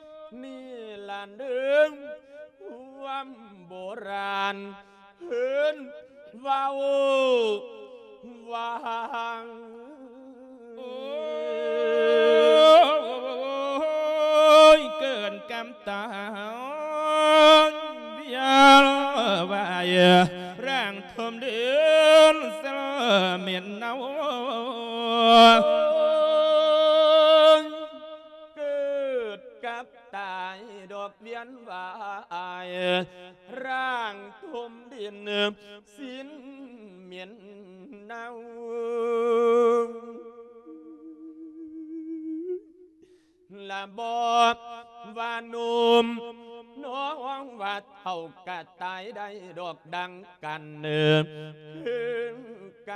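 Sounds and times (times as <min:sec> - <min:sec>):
man chanting into a microphone: 0:00.0 - 0:42.0, 0:43.5 - 0:52.9.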